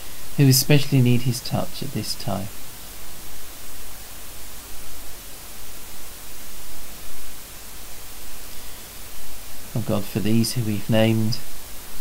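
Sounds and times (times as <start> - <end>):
microphone hiss and rumble: 0.0 - 12.0.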